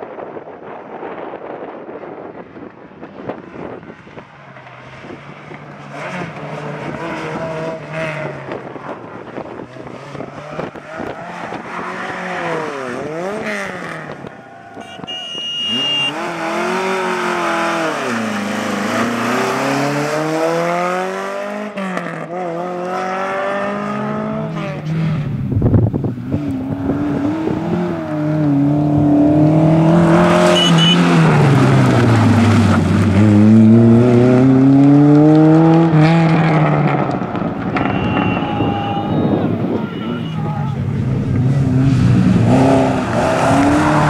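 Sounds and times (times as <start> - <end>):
rally car engine revving: 3.1 - 14.4, 15.0 - 38.8, 40.4 - 44.0.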